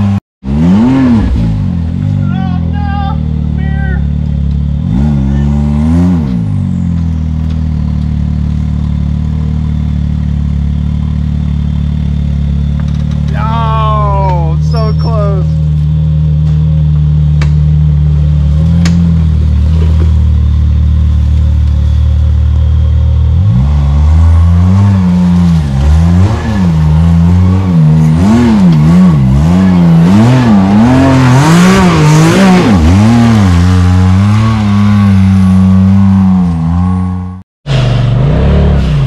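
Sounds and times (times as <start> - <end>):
utility vehicle engine revving: 0.0 - 39.0.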